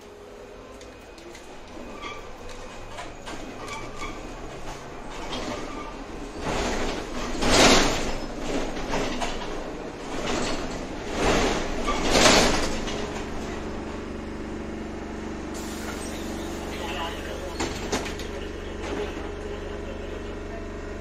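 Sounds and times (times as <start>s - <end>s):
tram running noise: 0.0s - 21.0s.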